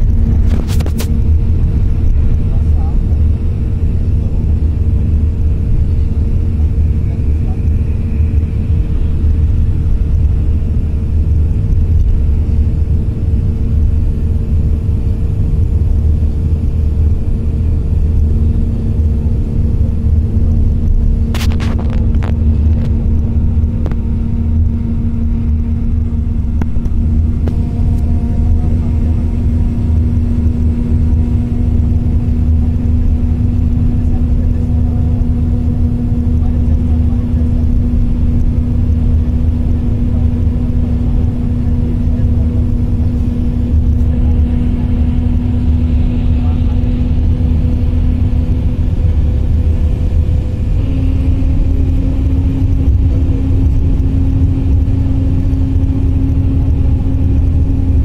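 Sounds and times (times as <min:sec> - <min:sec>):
constant hum: 0:00.0 - 0:58.0
road and engine rumble: 0:00.0 - 0:58.0.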